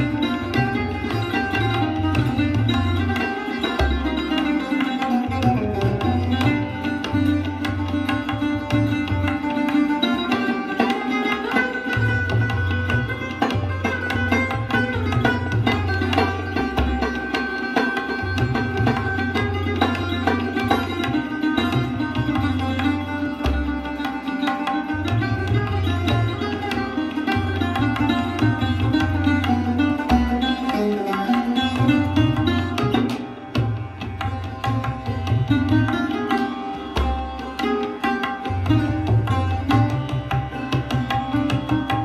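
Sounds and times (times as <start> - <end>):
tabla drumming: 0.0 - 42.0.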